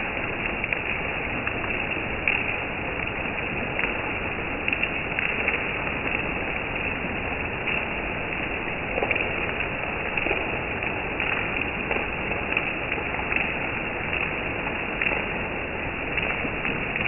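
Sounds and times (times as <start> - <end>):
raindrops tapping: 0.0 - 17.0.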